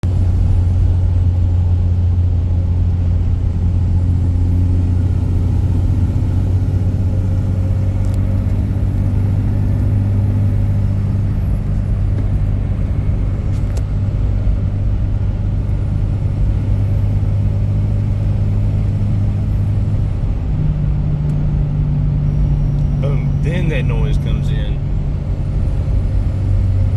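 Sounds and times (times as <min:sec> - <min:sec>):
diesel truck engine drone: 0:00.0 - 0:26.9.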